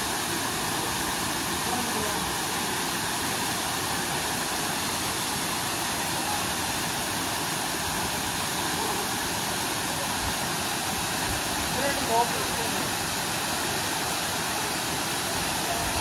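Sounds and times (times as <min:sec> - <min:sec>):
waterfall crashing over rocks: 0:00.0 - 0:16.0.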